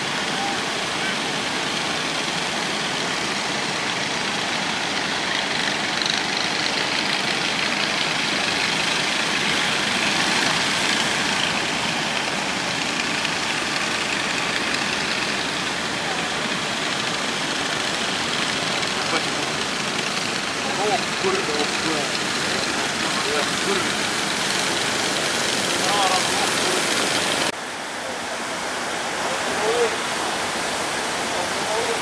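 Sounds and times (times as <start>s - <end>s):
boat engines droning: 0.0s - 32.0s
heavy surf breaking: 0.0s - 32.0s.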